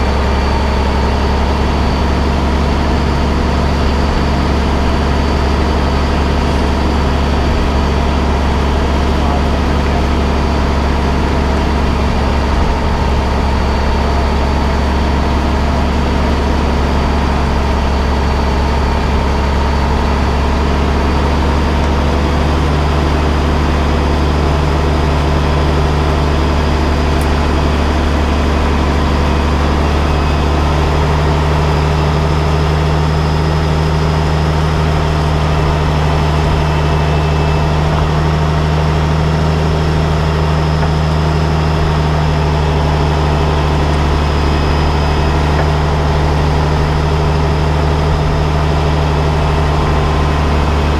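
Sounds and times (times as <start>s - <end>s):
faint high whine: 0.0s - 50.9s
large engine idling: 0.0s - 50.9s.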